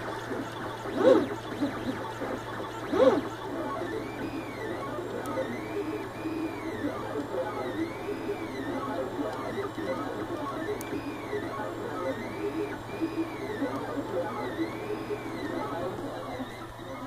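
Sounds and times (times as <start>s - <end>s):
steady low hum: 0.0s - 17.0s
stepper motors whining: 0.0s - 17.0s.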